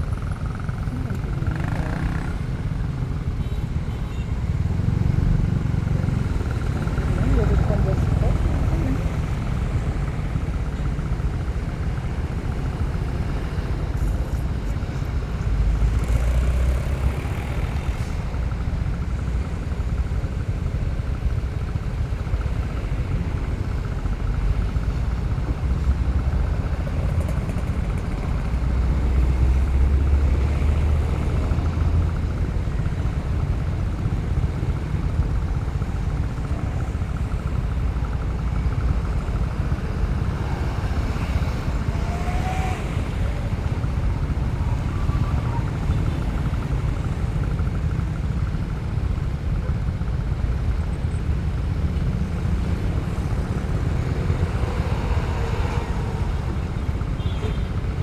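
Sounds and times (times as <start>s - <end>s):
motorcycle riding: 0.0s - 58.0s.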